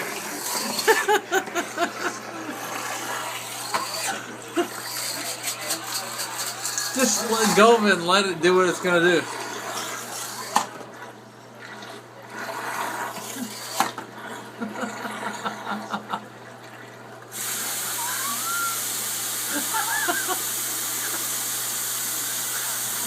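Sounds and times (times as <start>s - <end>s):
hair dryer hissing underwater: 0.0s - 10.8s, 12.3s - 15.5s, 17.3s - 23.0s.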